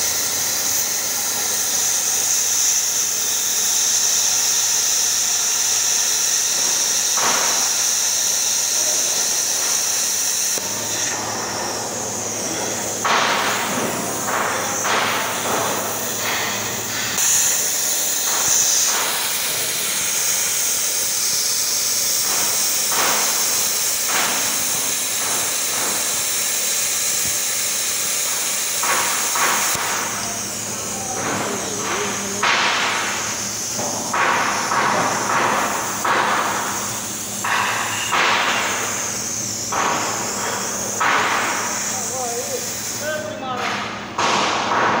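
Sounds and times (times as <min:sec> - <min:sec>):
plasma cutter hissing: 0:00.0 - 0:45.0.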